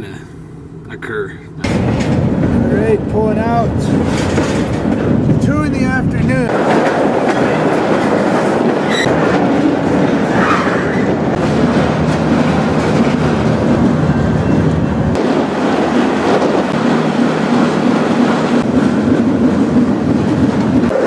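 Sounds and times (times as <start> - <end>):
train car rumbling and rattling: 0.0 - 21.0.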